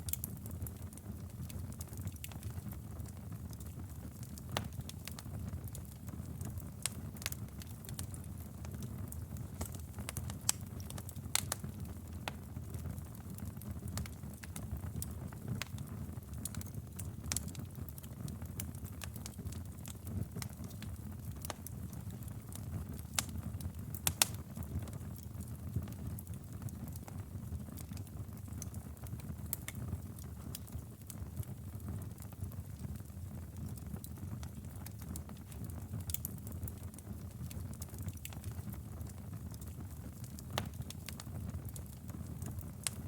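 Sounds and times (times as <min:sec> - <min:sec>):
low rumble of fire flames: 0:00.0 - 0:43.0
wood fire crackles and pops: 0:00.0 - 0:43.0.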